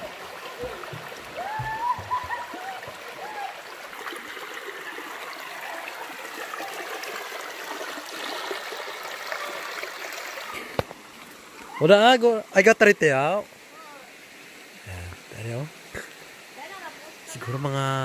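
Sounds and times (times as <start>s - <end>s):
river rushing over boulders: 0.0s - 18.0s.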